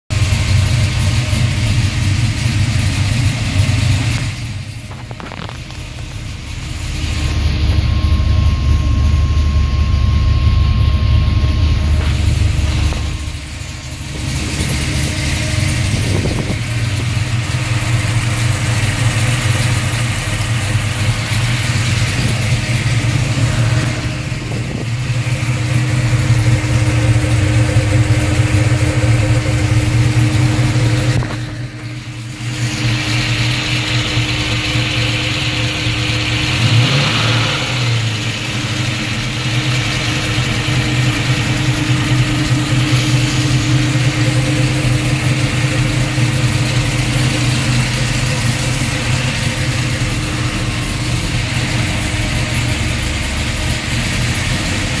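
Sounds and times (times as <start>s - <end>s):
car engine idling unsteadily: 0.1s - 55.0s.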